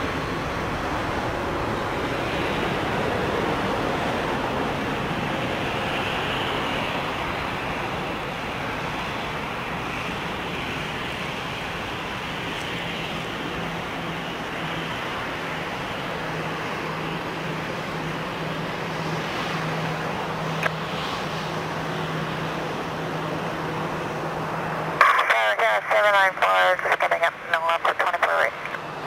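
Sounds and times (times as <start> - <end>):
jet engines at taxi power: 0.0 - 29.0.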